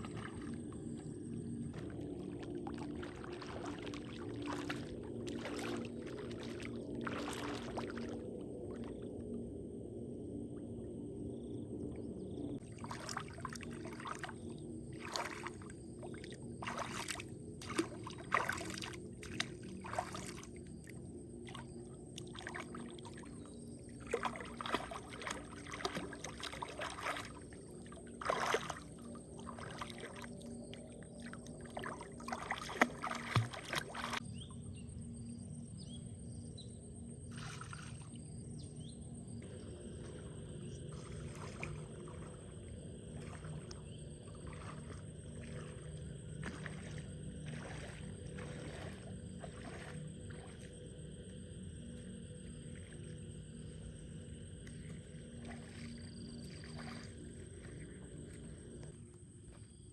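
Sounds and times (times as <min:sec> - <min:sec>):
water splashing and sloshing: 0:00.0 - 0:35.6, 0:36.2 - 0:59.9
low background hum: 0:00.0 - 0:59.9.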